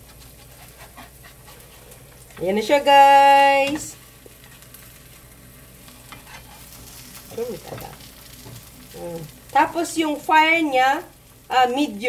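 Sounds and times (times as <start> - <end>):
batter sizzling in frying pan: 0.0 - 12.0.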